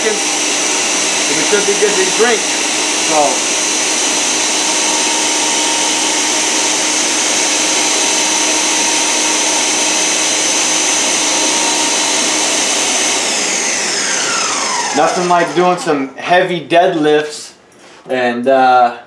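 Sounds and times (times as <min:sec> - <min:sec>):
blender running at high speed: 0:00.0 - 0:16.1.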